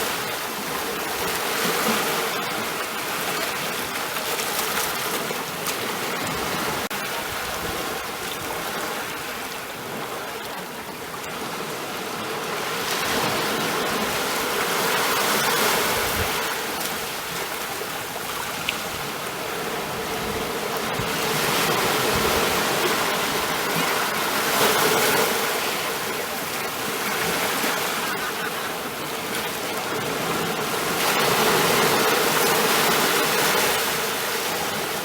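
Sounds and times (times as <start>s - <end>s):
ocean waves breaking on shore: 0.0s - 35.0s.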